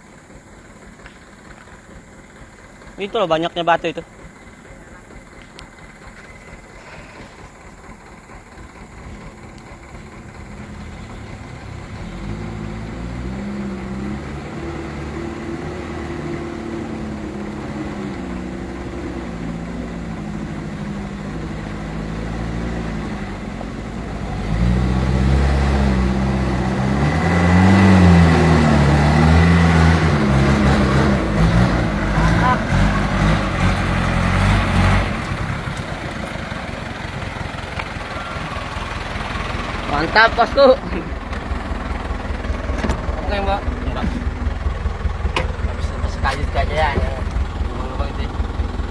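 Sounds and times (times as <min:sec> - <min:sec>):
diesel truck engine labouring: 0:00.0 - 0:48.9.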